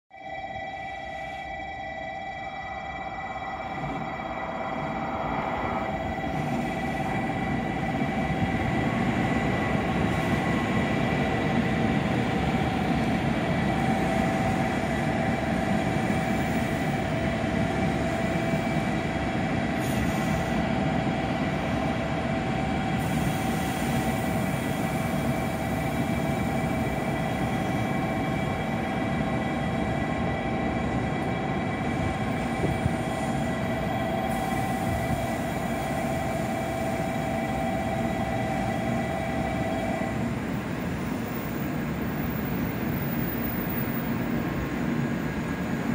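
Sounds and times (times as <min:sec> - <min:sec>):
constant whine: 0:00.1 - 0:45.9
train wheels rumbling on rails: 0:03.3 - 0:45.9.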